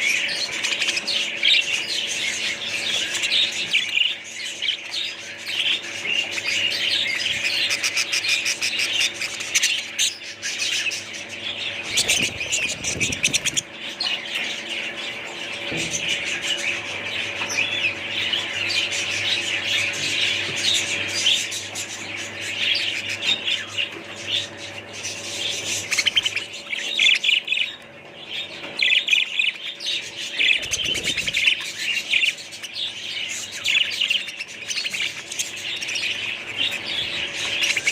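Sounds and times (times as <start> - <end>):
caged birds chirping: 0.0 - 37.9
steady low hum: 0.0 - 37.9.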